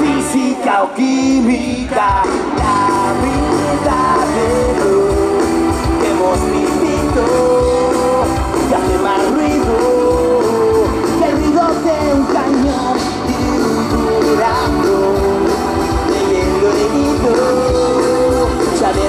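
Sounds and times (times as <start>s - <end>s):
pop-rock band playing live: 0.0s - 19.0s.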